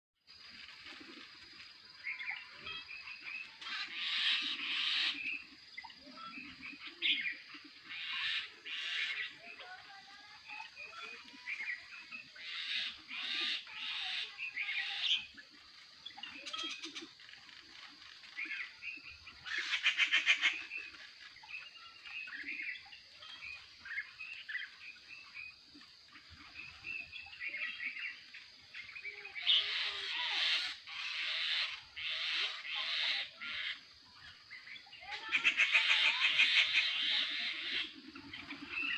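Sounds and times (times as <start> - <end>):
birds chirping and calling: 0.3 - 38.9.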